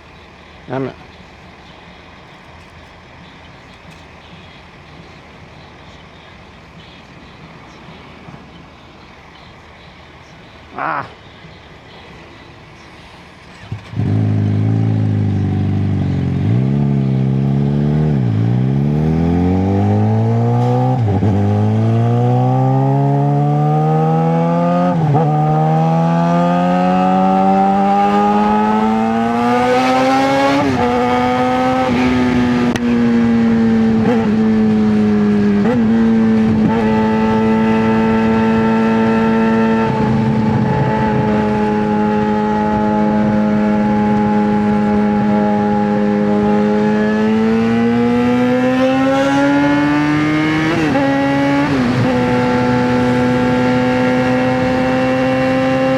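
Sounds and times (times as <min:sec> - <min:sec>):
motorcycle engine accelerating: 0:01.5 - 0:55.9.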